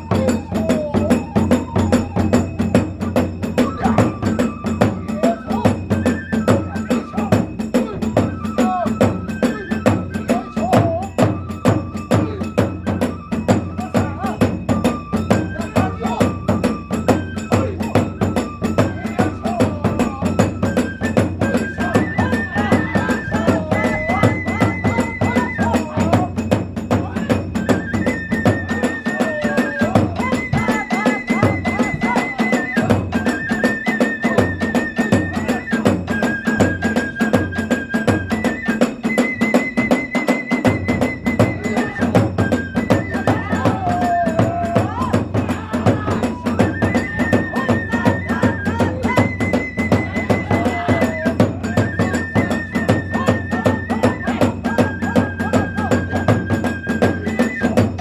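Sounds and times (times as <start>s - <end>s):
bamboo flute melody: 0.0s - 58.0s
drums beating: 0.0s - 58.0s.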